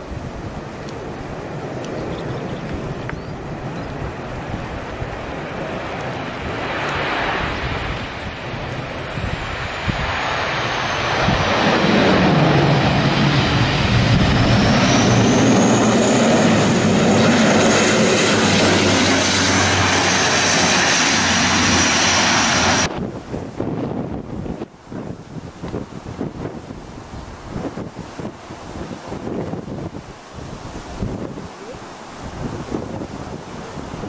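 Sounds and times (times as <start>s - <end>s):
turboprop airliner landing: 0.0s - 34.0s.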